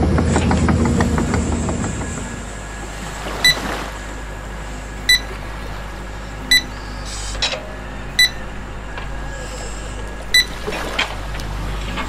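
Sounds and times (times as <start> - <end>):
low steady hum: 0.0 - 12.0
excavator warning beeps: 0.9 - 11.0.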